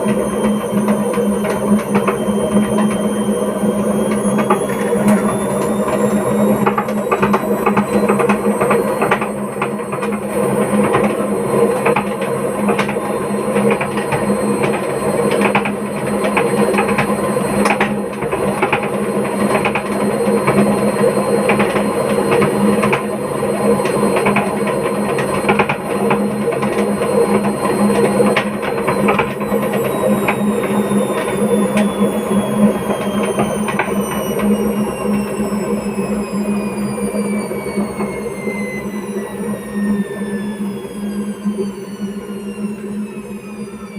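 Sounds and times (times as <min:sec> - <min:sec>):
high motor whine: 0:00.0 - 0:43.9
washing machine spinning: 0:00.0 - 0:43.9.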